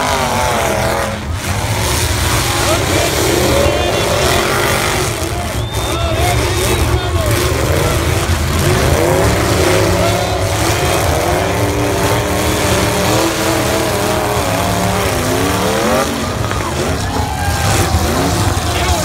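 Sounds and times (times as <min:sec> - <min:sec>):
car engines revving hard: 0:00.0 - 0:19.0
cars ramming each other: 0:00.0 - 0:19.0.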